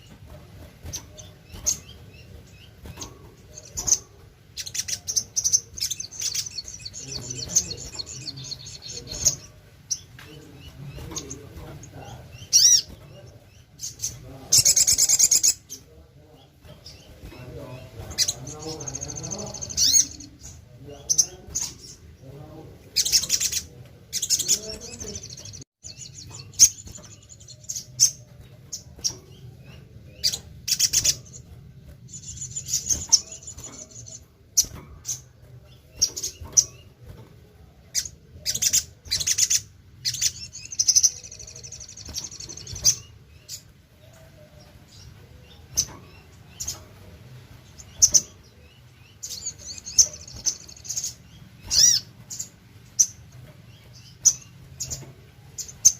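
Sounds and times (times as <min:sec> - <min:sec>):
bird trilling and chirping: 0:00.0 - 0:55.9.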